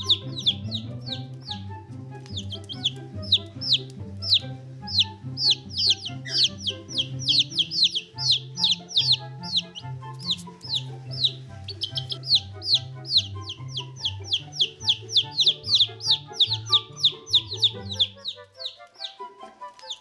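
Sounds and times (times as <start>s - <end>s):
baby chicks peeping: 0.0s - 20.0s
background music with bass: 0.0s - 20.0s.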